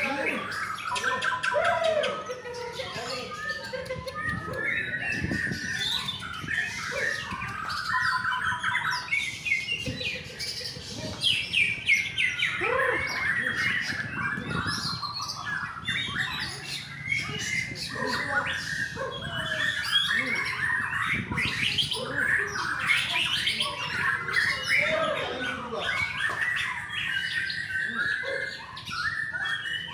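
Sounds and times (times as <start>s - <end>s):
birds chirping and trilling: 0.0s - 29.9s.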